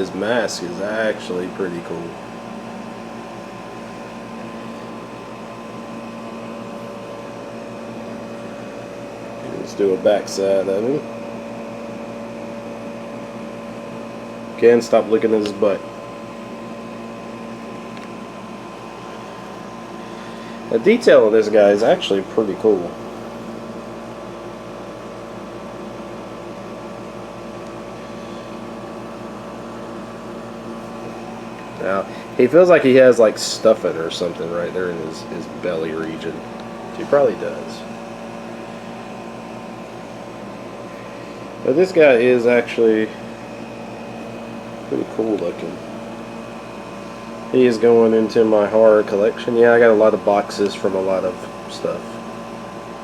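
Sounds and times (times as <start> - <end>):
machine hum: 0.0 - 53.0.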